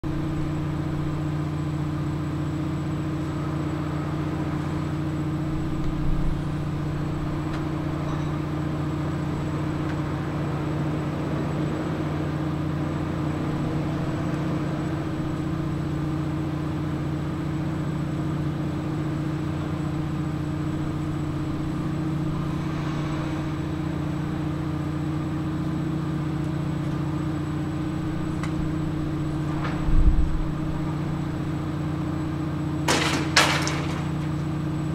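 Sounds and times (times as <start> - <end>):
engine humming: 0.0 - 34.9.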